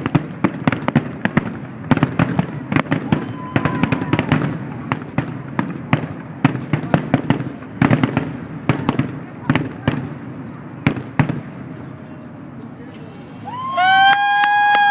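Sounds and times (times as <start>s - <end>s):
firework whistling: 0.0s - 14.9s
fireworks cracking and banging: 0.0s - 14.9s.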